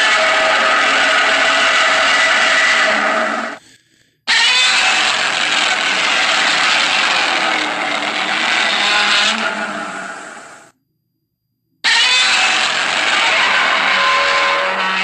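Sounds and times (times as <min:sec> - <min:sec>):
monster roar screech: 0:00.0 - 0:03.6, 0:04.3 - 0:10.7, 0:11.8 - 0:15.0.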